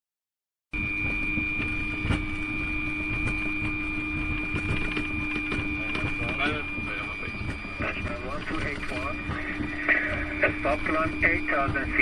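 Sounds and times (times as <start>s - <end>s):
high-pitched whine: 0.8s - 12.0s
low hum: 0.8s - 12.0s
low rumble: 0.8s - 12.0s.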